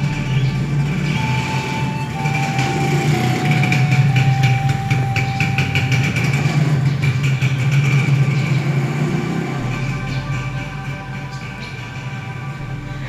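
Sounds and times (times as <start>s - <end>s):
loud mechanical drone: 0.0s - 13.0s
rapid ticking: 0.0s - 13.0s.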